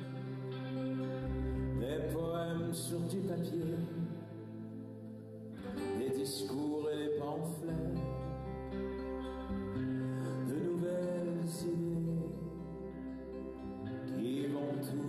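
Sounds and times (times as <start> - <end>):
sustained chords: 0.0 - 15.0.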